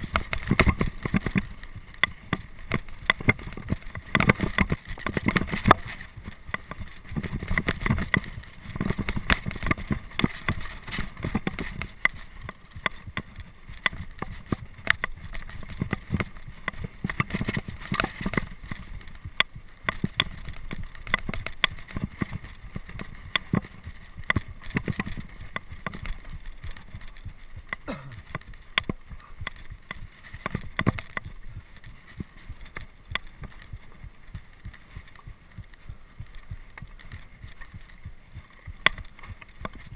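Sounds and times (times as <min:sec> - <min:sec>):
bicycle rattling over rough ground: 0:00.0 - 0:39.9.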